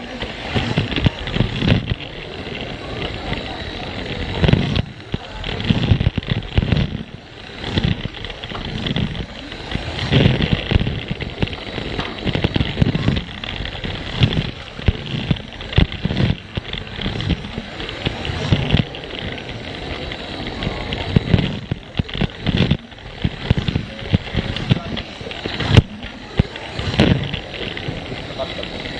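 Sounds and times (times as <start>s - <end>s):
toy train motor whirring: 0.0s - 28.9s
toy train wheels clicking on track: 0.0s - 28.9s.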